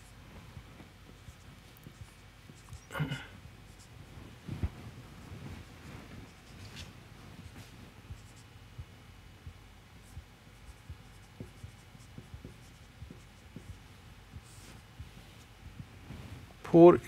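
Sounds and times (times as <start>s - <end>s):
marker writing on whiteboard: 0.0s - 4.0s, 6.2s - 16.0s.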